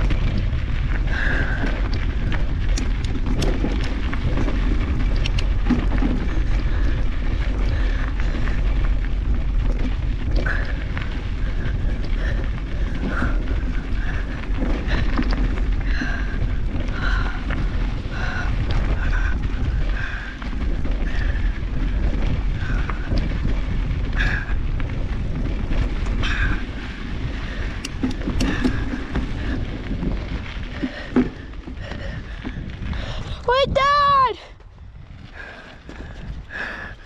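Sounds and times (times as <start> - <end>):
bike rattling and clattering: 0.0 - 37.0
wind rumbling on microphone: 0.0 - 37.0.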